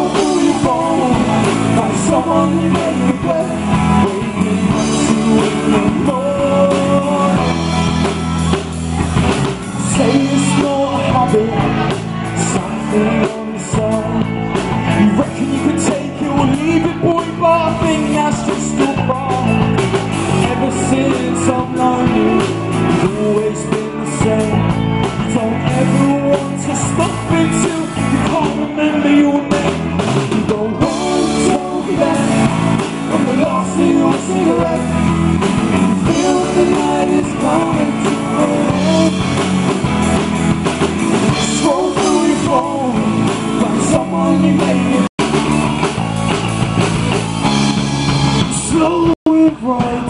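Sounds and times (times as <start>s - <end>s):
person singing: 0.0s - 45.3s, 48.3s - 50.0s
drum kit: 0.0s - 50.0s
guitar: 0.0s - 50.0s.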